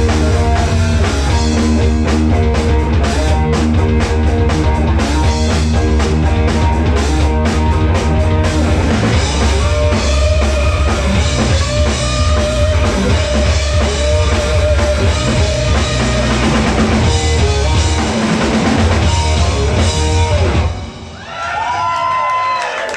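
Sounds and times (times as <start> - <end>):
live rock band playing: 0.0 - 21.2.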